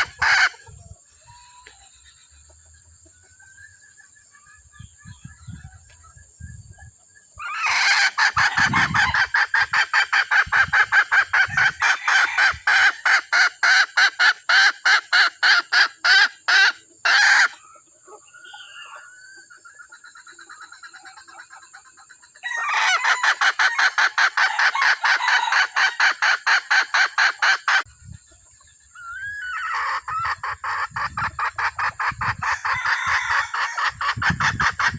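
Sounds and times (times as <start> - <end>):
decoy hen clucking: 0.0 - 34.9.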